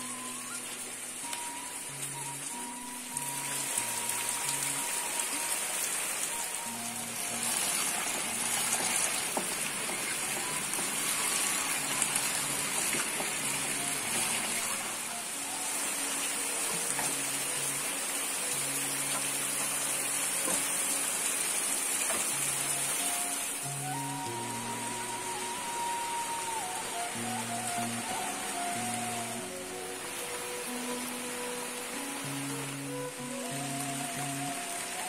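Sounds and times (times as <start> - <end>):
slow background music: 0.0 - 35.0
steady rain hiss: 0.0 - 35.0.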